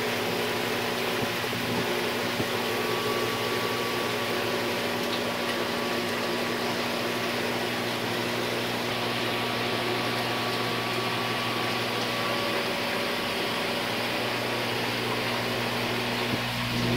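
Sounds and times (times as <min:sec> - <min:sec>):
electric pump hum: 0:00.0 - 0:16.9.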